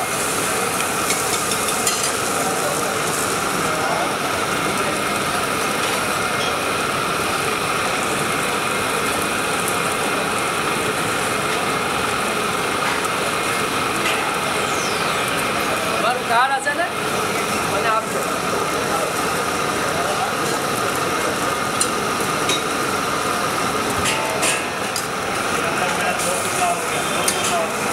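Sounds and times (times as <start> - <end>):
batter sizzling on griddle: 0.0 - 27.9.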